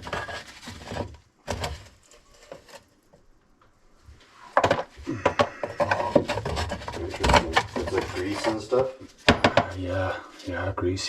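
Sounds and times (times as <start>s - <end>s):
plastic pipe knocks and scraping: 0.0s - 3.3s, 4.5s - 10.5s.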